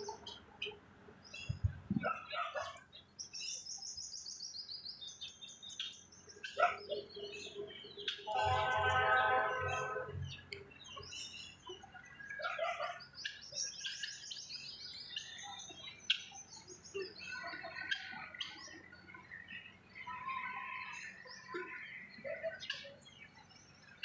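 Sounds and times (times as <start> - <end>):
birds chirping and twittering: 0.0 - 24.0.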